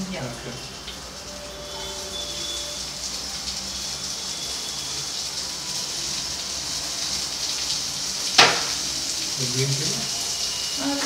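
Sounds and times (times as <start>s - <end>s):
onion sizzling in frying pan: 0.0s - 11.0s.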